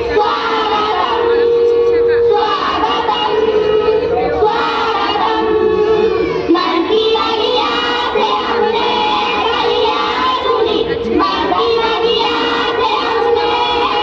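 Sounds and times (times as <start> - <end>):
girls singing in unison: 0.0 - 14.0.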